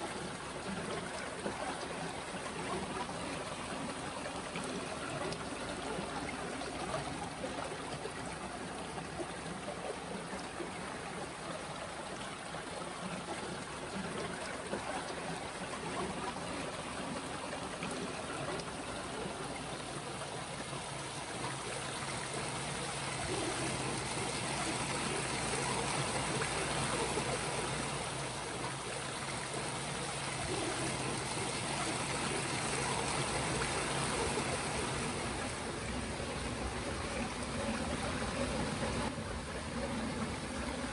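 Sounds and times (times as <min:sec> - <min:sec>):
stream of water flowing: 0:00.0 - 0:40.9.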